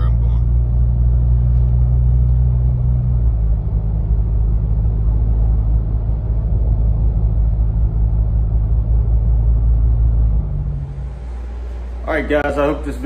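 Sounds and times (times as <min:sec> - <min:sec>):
low exhaust drone: 0:00.0 - 0:13.0.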